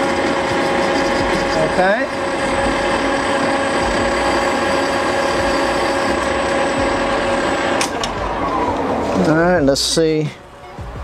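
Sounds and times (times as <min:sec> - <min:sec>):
metal lathe motor whine: 0:00.0 - 0:08.9.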